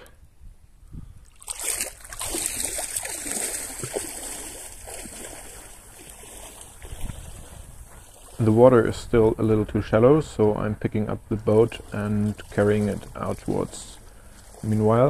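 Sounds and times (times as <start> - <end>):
shallow water splashing: 1.2 - 15.0.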